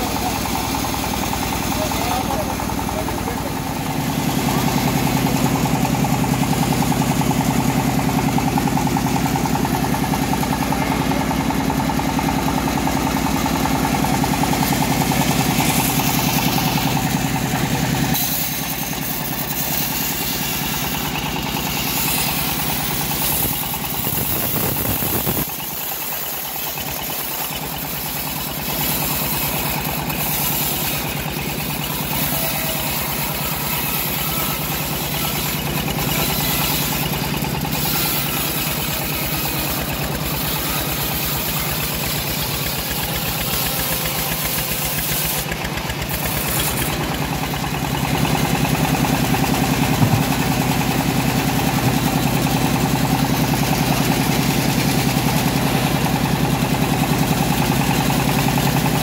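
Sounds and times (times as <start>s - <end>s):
bandsaw blade cutting log: 0.0s - 59.0s
engine running: 0.0s - 59.0s.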